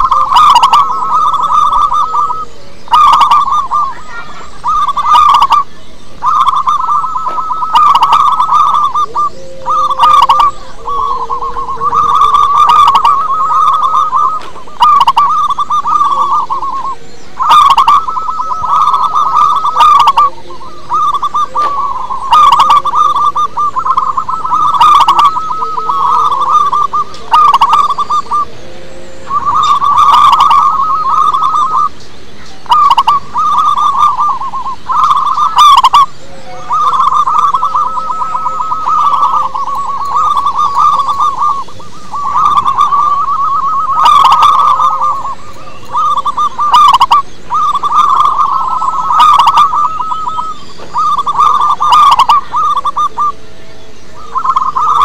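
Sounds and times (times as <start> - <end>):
dove trilled cooing: 0.0 - 55.0.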